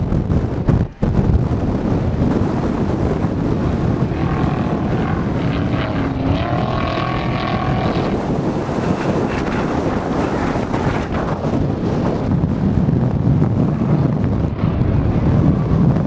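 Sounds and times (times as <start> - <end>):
race truck engine rumbling: 0.0 - 16.0
wind on microphone: 0.0 - 16.0.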